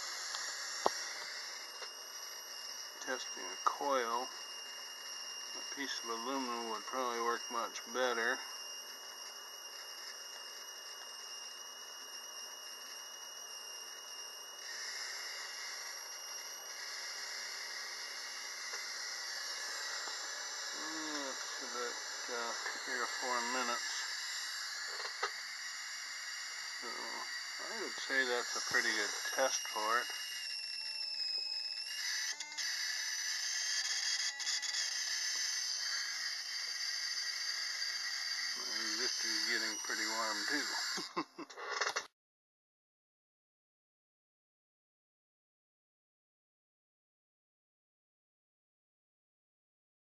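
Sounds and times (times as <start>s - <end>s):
ignition coil buzzing sparks: 0.0s - 42.1s.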